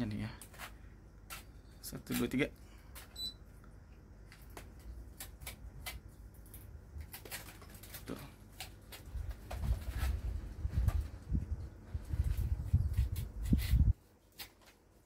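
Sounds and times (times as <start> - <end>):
air conditioner rumble: 0.0 - 15.0.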